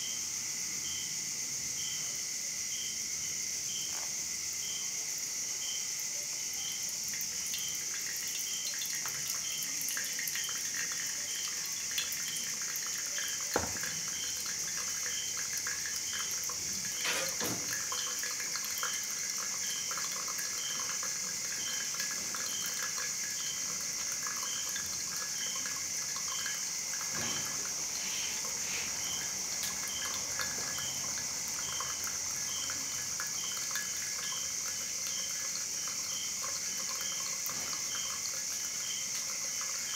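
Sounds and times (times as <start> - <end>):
high insect chirp: 0.0 - 39.9
water trickling onto coffee grounds: 3.6 - 39.9.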